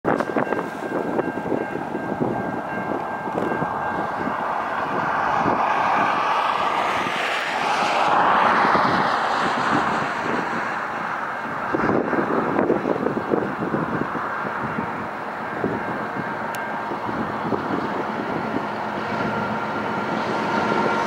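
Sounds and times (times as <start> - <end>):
wind buffeting microphone: 0.0 - 21.0
distant rushing rumble: 0.3 - 21.0.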